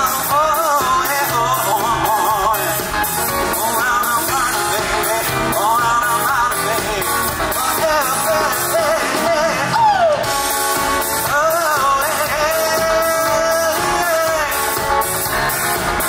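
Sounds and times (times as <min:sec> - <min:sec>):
live funk band playing: 0:00.0 - 0:16.0.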